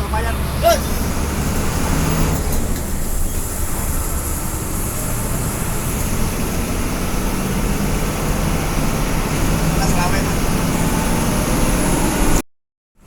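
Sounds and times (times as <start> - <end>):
bus engine drone: 0.0 - 12.4
road and tyre noise: 0.0 - 12.4.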